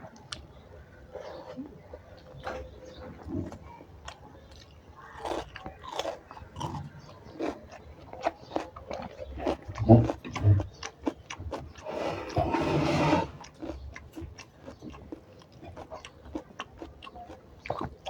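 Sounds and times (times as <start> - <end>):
person chewing crunchy food: 2.1 - 18.0.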